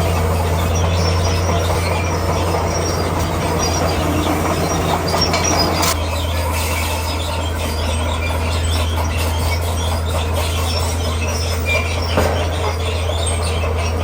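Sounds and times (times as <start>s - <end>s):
bulldozer diesel engine droning: 0.0s - 14.0s
steel tracks squealing and clanking: 0.0s - 14.0s.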